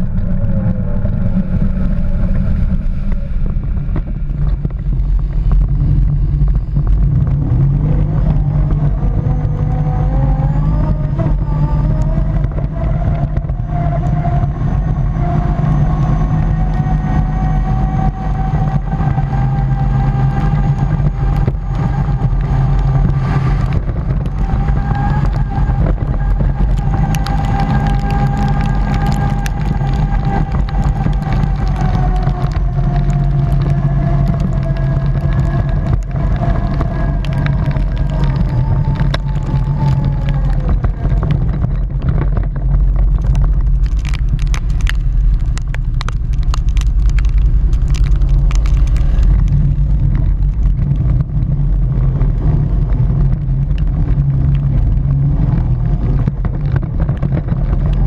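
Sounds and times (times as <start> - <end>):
tyres crackling on gravel: 0.0 - 58.0
wind noise: 0.0 - 58.0.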